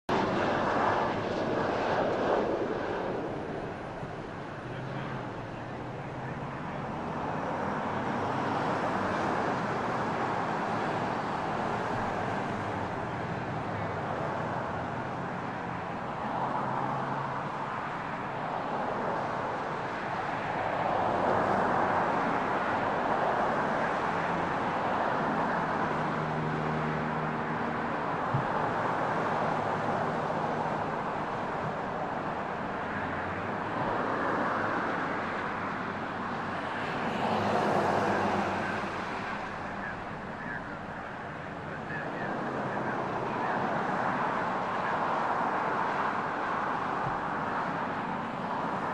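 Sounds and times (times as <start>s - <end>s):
distant jet engines landing: 0.1s - 48.9s.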